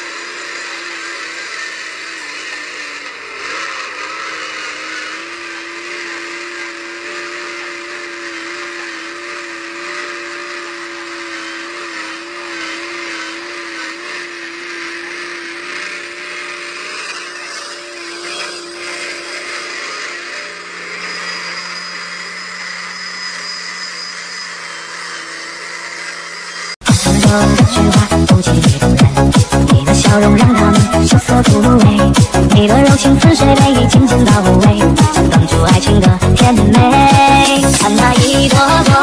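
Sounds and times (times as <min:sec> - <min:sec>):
truck diesel engine droning: 0:00.0 - 0:39.0.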